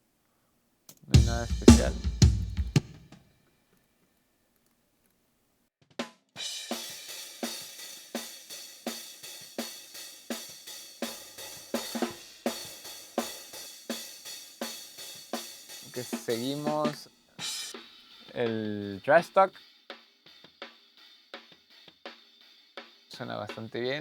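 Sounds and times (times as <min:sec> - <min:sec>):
faint drum kit: 0:00.9 - 0:03.2, 0:05.8 - 0:24.0
hi-hat groove: 0:01.2 - 0:03.1, 0:06.5 - 0:24.0.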